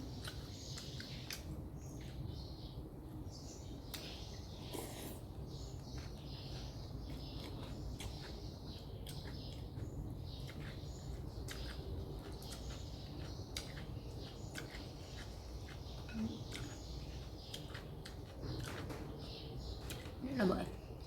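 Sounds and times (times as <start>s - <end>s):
chewing noodles: 0.0s - 21.0s.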